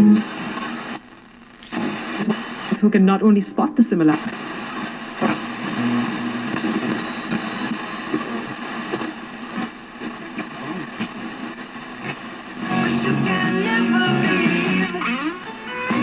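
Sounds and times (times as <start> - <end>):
faint wavering radio station: 0.0 - 16.0
radio static hiss: 0.0 - 16.0.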